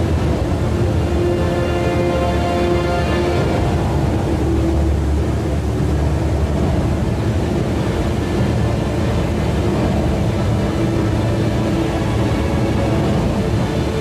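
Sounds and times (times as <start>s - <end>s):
faint held music tones: 0.0s - 14.0s
waterfall pouring into basin: 0.0s - 14.0s.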